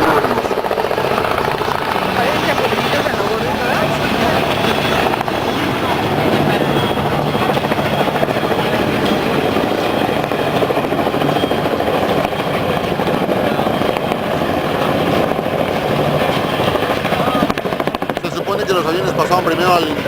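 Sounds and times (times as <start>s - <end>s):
helicopter rotors thudding: 0.0s - 20.0s.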